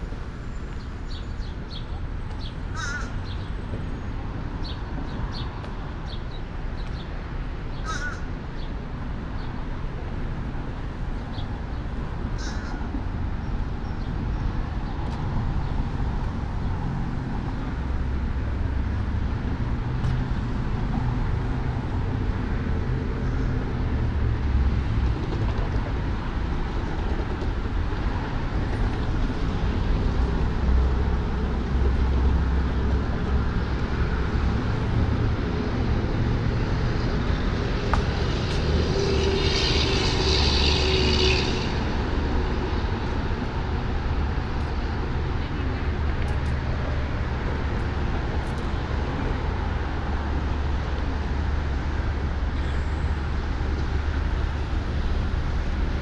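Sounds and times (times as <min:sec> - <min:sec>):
low rumble of city traffic: 0:00.0 - 0:56.0.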